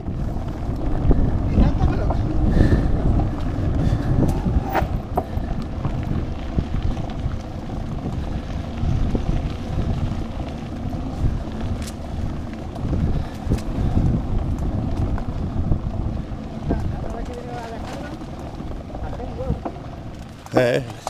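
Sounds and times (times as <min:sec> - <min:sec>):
bike clicks and rattles: 0:00.0 - 0:21.0
bike tyres rolling on dirt: 0:00.0 - 0:21.0
wind on microphone: 0:00.0 - 0:21.0.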